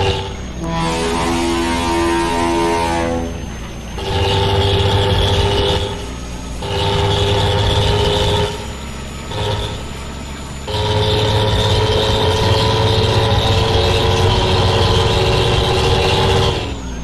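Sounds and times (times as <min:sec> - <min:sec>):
loud vehicle horn blasts: 0:00.0 - 0:16.9.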